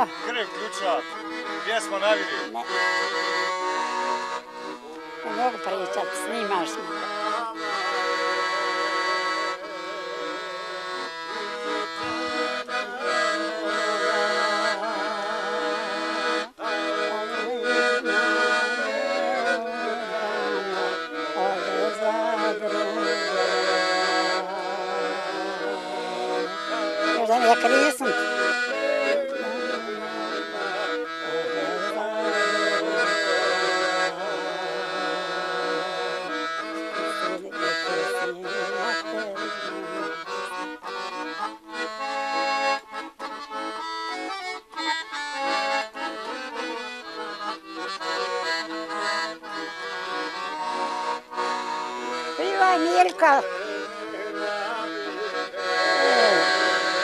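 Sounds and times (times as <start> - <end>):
piano accordion playing a tune: 0.0 - 57.0.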